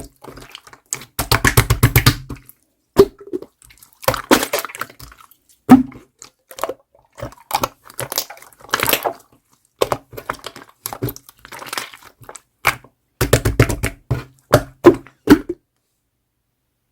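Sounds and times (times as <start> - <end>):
slime squished by hand: 0.0 - 15.6.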